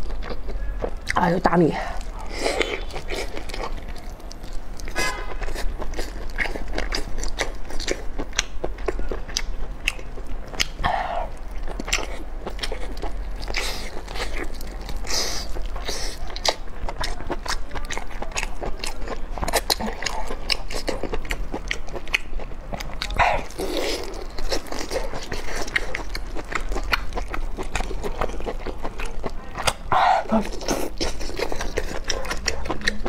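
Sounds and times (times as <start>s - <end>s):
biting and chewing: 0.0s - 33.0s.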